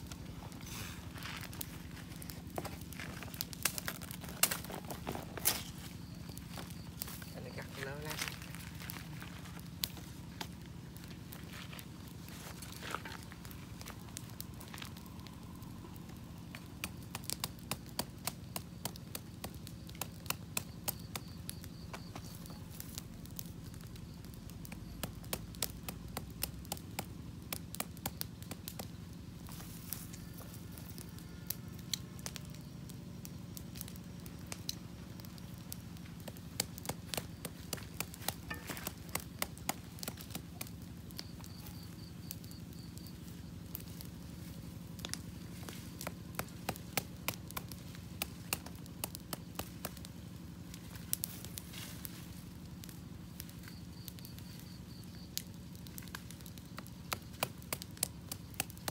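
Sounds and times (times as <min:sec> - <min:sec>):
campfire crackling: 0:00.0 - 0:58.9
sharp snaps of fire: 0:00.0 - 0:58.9
steady low hum: 0:00.0 - 0:58.9.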